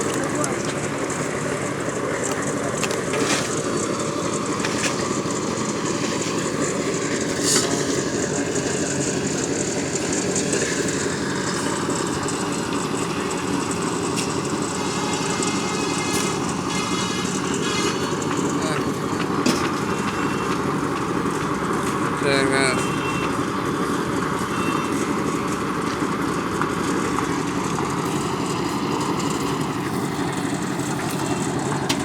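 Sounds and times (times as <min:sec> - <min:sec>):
concrete mixer drone: 0:00.0 - 0:32.0.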